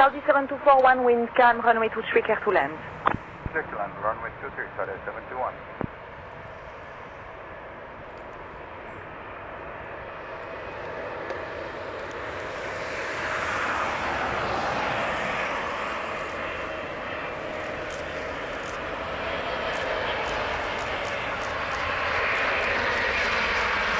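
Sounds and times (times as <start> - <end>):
jet engine rushing with whine: 0.0 - 23.9.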